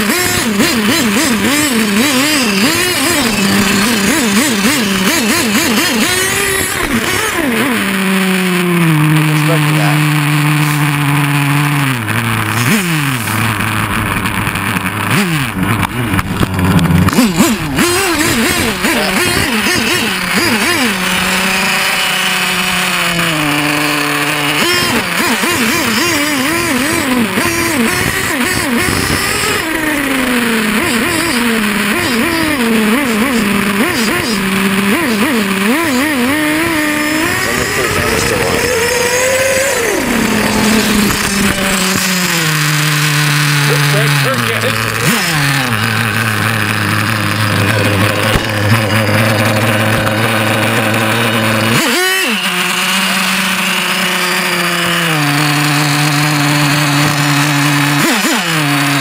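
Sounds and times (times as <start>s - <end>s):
small motor revving: 0.0s - 59.0s.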